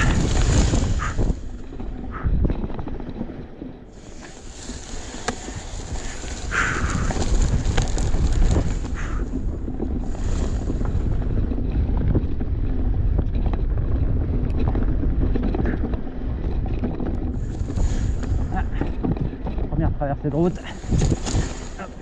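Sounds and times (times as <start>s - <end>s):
mountain bike rumbling and rattling: 0.0s - 22.0s
wind rushing over microphone: 0.0s - 22.0s.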